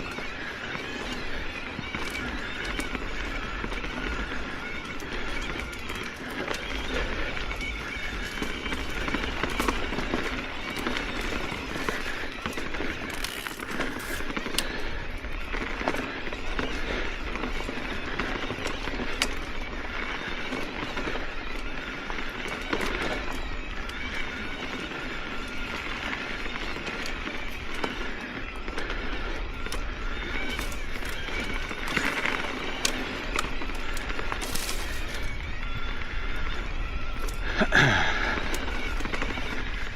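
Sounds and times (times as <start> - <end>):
bike tyres crunching on gravel: 0.0 - 39.9
clicks and rattles of stones and frame: 0.0 - 39.9.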